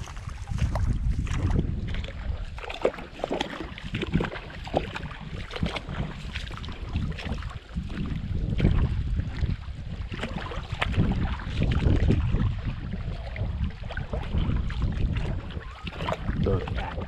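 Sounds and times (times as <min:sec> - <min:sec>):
wading through shallow water: 0:00.0 - 0:17.0
wind buffeting microphone: 0:00.0 - 0:17.0.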